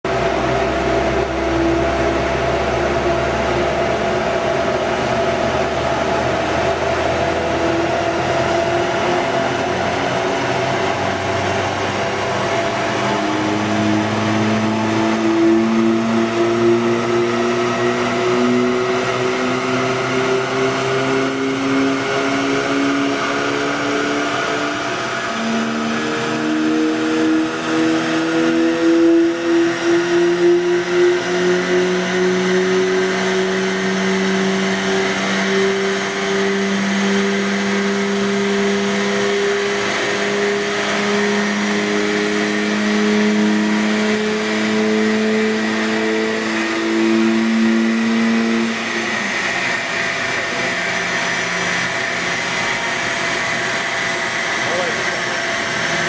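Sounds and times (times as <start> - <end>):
car engine revving under load: 0.0 - 56.0
dyno rollers rushing: 0.1 - 56.0
large cooling fan: 0.1 - 56.0.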